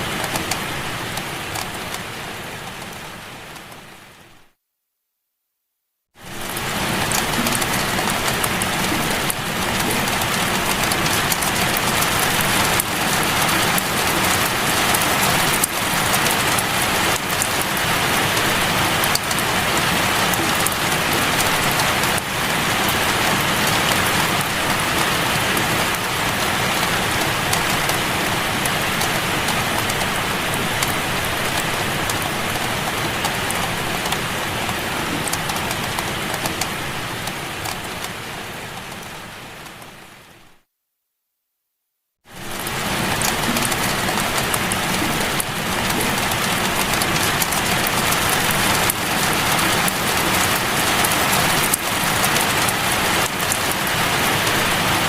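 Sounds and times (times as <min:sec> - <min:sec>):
steady rain falling: 0:00.0 - 0:04.6, 0:06.2 - 0:40.7, 0:42.2 - 0:55.0
raindrop impacts: 0:06.3 - 0:40.0, 0:42.4 - 0:55.0.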